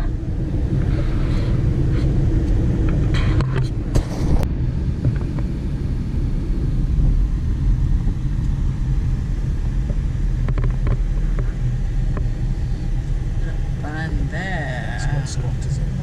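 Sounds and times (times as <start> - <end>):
car interior road and engine rumble: 0.0 - 16.0.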